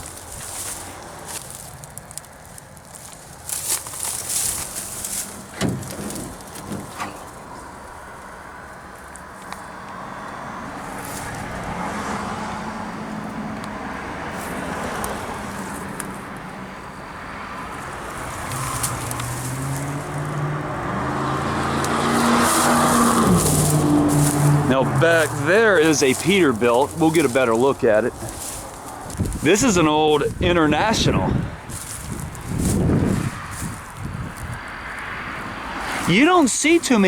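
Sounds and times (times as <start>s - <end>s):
traffic passing: 0.0s - 37.0s.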